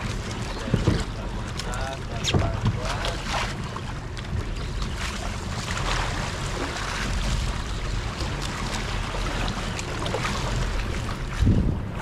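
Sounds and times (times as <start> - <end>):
sea water washing against hull: 0.0 - 12.0
wind buffeting microphone: 0.0 - 12.0.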